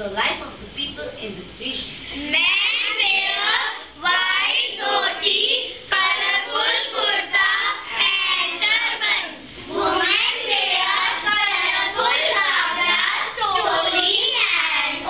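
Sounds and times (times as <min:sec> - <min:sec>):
child reciting in sing-song voice: 0:02.2 - 0:15.0.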